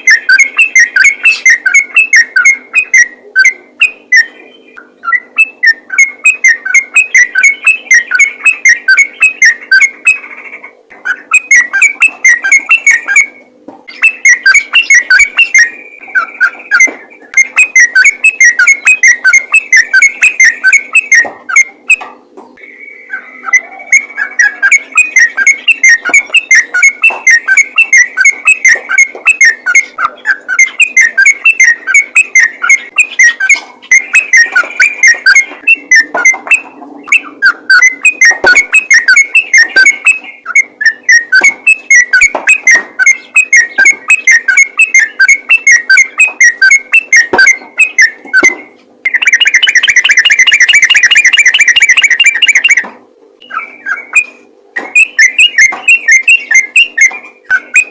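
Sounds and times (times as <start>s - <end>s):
bird chattering song: 0.0s - 57.9s.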